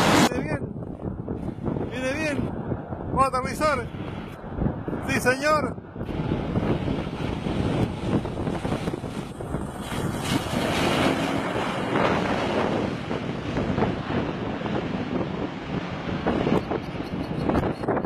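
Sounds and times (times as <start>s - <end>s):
turboprop engines roaring: 0.0s - 18.0s
wind buffeting microphone: 0.0s - 18.0s.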